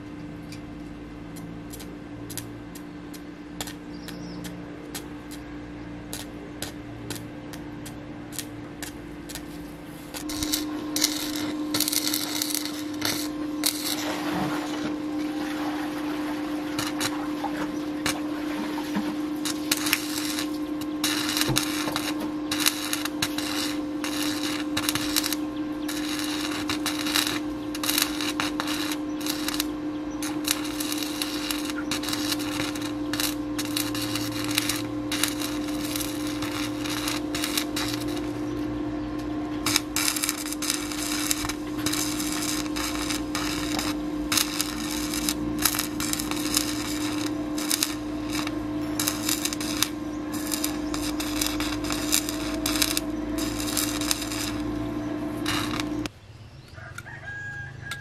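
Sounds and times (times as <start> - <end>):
welding arc crackling: 0.0 - 56.2
welding machine hum: 0.0 - 56.2.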